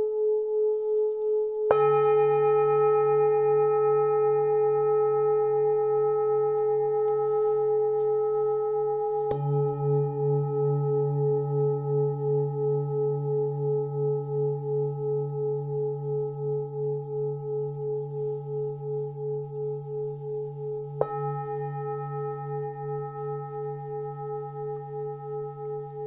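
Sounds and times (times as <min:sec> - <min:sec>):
singing bowl struck and ringing: 0:00.0 - 0:26.0.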